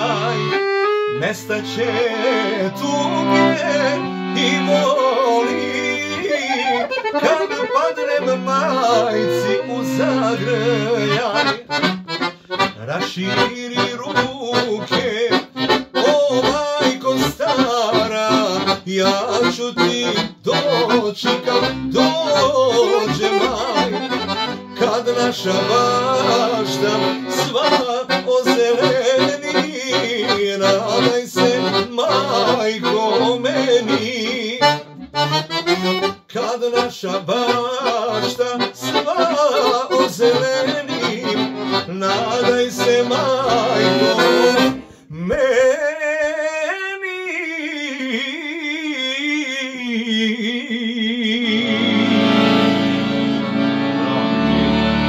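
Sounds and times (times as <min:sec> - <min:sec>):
fast accordion folk music: 0:00.0 - 0:45.0, 0:51.5 - 0:55.0
low sustained accordion chords: 0:00.0 - 0:45.1, 0:51.4 - 0:55.0.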